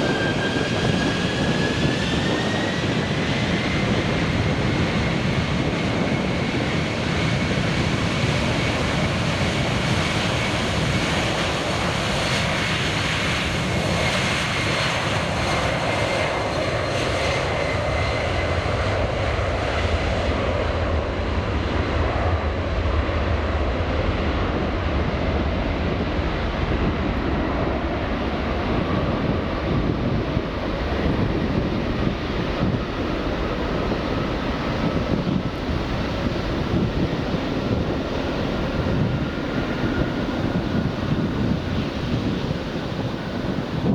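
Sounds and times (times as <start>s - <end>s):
jet engines rushing and whining: 0.0s - 43.9s.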